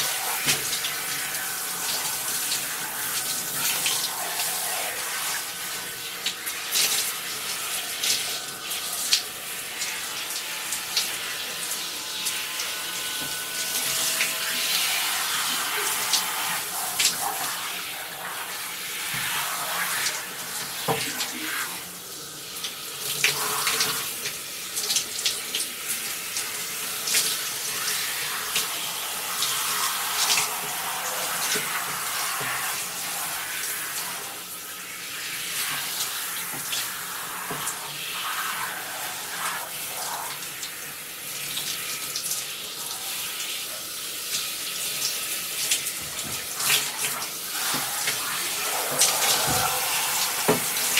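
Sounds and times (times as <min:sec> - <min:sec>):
shower water hissing: 0:00.0 - 0:50.9
water splashing in a bathtub: 0:00.0 - 0:50.9.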